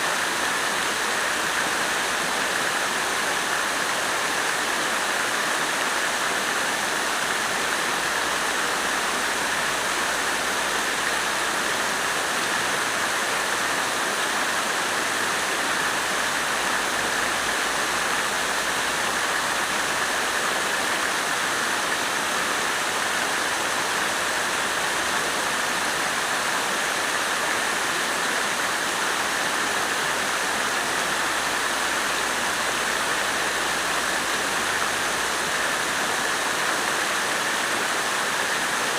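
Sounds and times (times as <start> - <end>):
water fountain splashing: 0.0 - 38.9.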